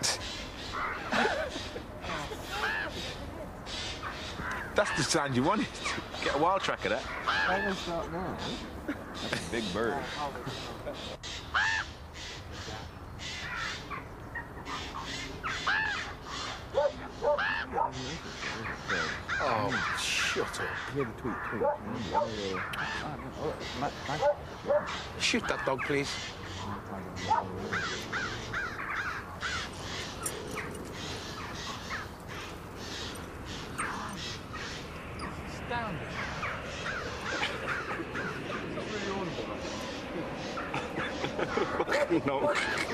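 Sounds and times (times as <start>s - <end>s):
crow cawing: 0.0s - 42.9s.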